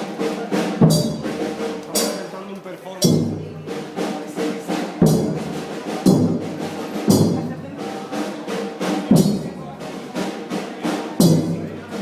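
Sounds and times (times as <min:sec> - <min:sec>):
heavy drum beat: 0:00.0 - 0:02.4, 0:03.0 - 0:12.0.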